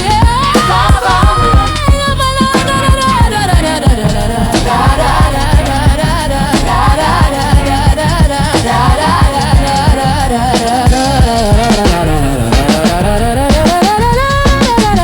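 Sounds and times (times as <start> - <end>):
hip-hop song with sung melody: 0.0 - 15.0.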